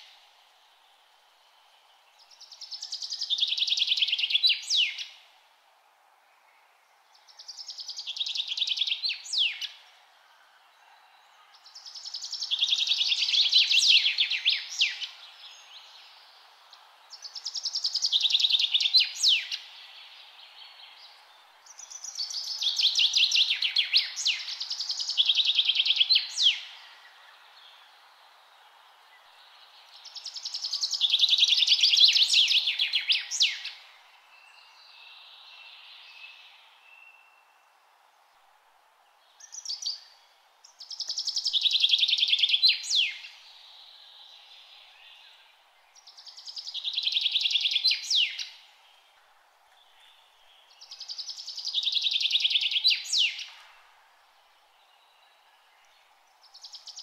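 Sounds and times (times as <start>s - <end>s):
faint outdoor hiss: 0.0s - 57.0s.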